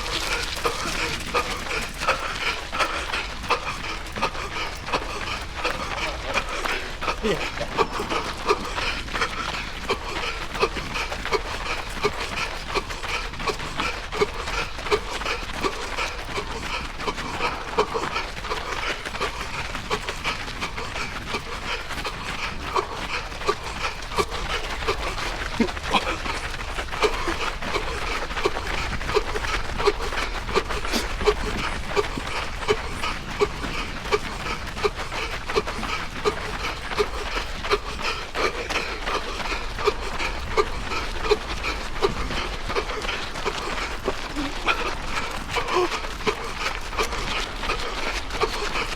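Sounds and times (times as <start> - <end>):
heavy panting and wheezing breaths: 0.0 - 48.9.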